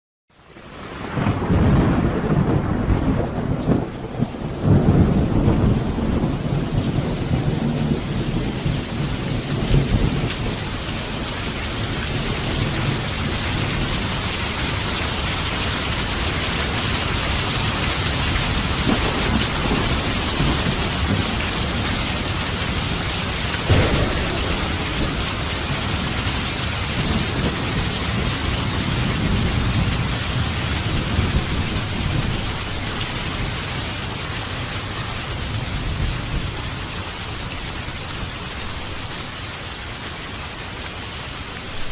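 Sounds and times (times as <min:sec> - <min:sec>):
heavy rain: 0:00.3 - 0:41.9
thunder rumbling: 0:00.9 - 0:38.9.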